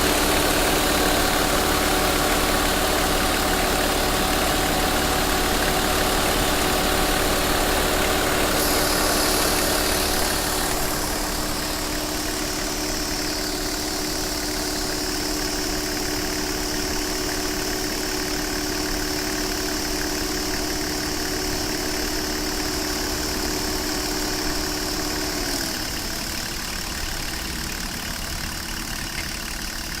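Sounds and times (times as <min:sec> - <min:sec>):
electric radiator fan running: 0:00.0 - 0:27.5
diesel engine idling: 0:00.0 - 0:30.0.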